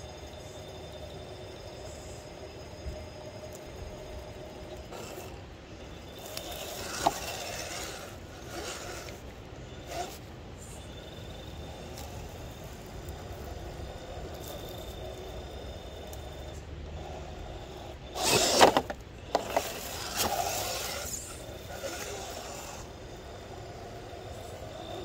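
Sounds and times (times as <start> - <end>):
small electric motor whirring: 0.0 - 25.0
tires scraping on rock: 3.4 - 25.0.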